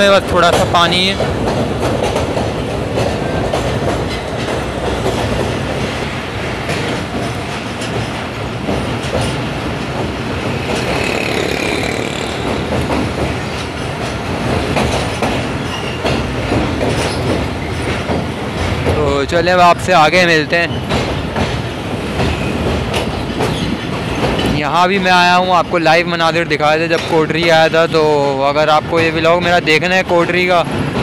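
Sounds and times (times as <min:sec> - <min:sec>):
clickety-clack over rail joints: 0:00.0 - 0:31.0
train wheels rumbling on rails: 0:00.0 - 0:31.0.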